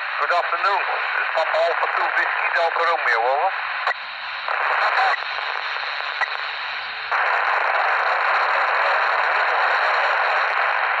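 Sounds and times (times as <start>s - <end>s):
scanner static hiss: 0.0s - 11.0s.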